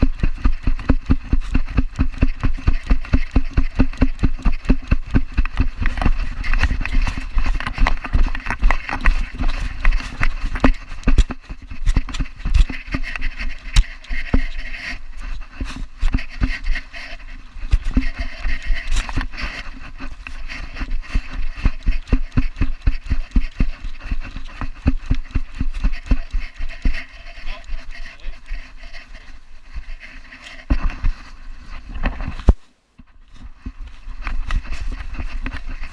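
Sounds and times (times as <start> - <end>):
thumps of galloping dog: 0.0 - 35.9.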